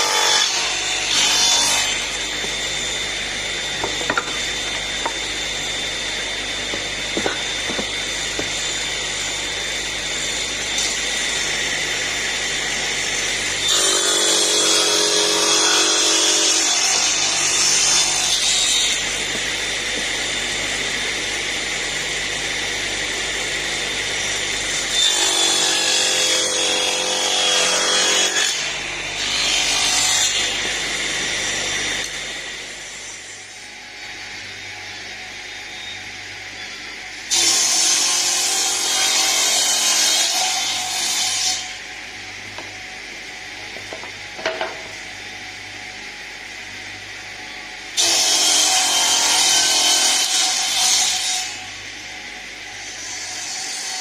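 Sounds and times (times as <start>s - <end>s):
table saw cutting wood: 0.0s - 54.0s.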